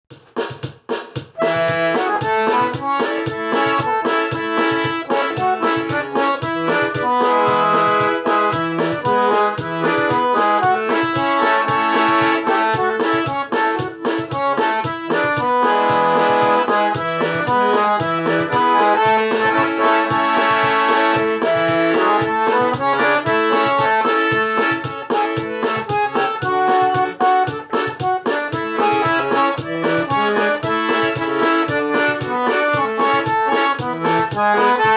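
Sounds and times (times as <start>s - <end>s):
accordion playing lively tune: 1.4s - 34.9s.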